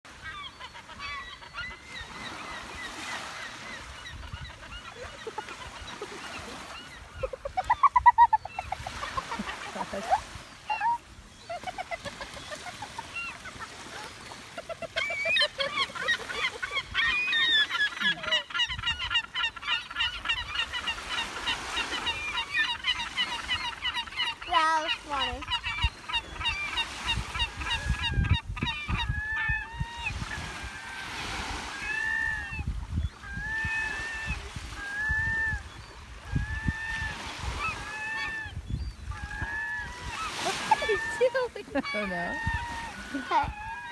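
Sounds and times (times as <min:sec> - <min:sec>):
birds calling harshly: 0:00.1 - 0:43.9.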